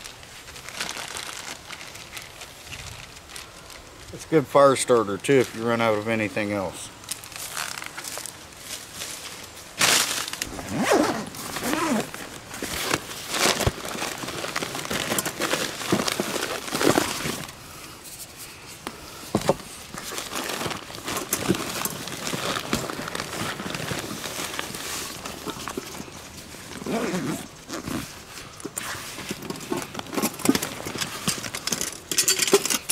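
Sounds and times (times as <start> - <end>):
plastic crinkling and rustling: 0.0 - 32.9.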